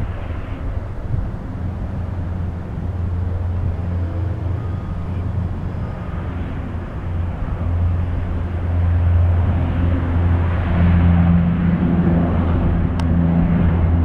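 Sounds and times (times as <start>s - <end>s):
hull skimming water hiss: 0.0s - 13.7s
turboprop engines droning: 0.0s - 14.0s.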